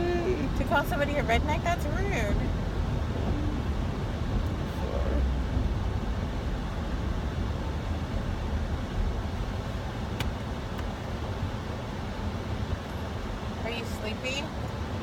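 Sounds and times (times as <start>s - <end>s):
road hiss: 0.0s - 15.0s
tyre and engine rumble: 0.0s - 15.0s.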